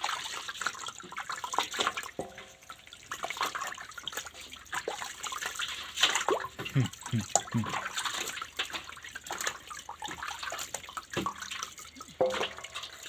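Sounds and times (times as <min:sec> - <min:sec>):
water dripping: 0:00.0 - 0:13.0
water running and splashing: 0:00.0 - 0:13.0.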